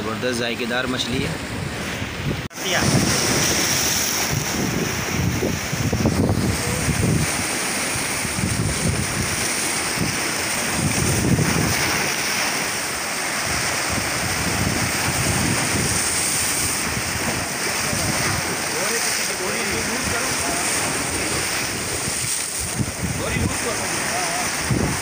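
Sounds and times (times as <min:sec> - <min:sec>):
waves breaking on rocks: 0:00.0 - 0:25.0
wind buffeting microphone: 0:01.0 - 0:25.0.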